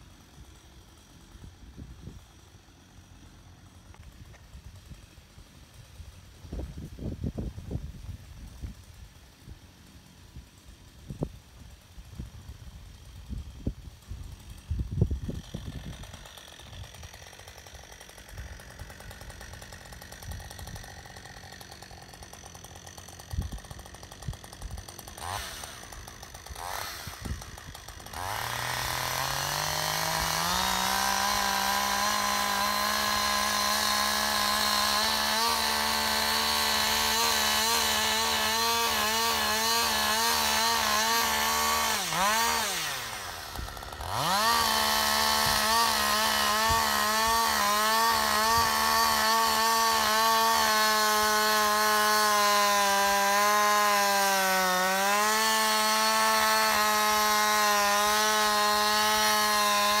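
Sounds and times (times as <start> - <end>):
chainsaw cutting wood: 0.0 - 60.0.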